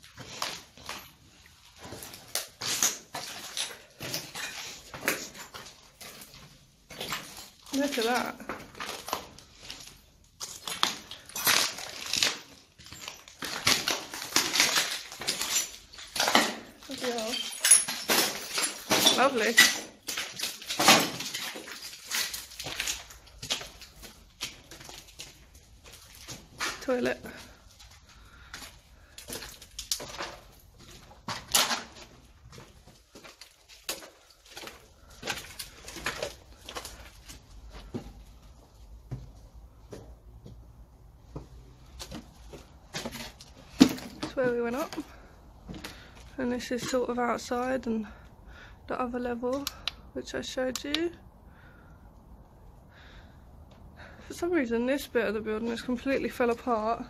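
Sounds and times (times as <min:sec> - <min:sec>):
footsteps crunching on gritty concrete: 0:00.0 - 0:17.2, 0:18.0 - 0:47.9.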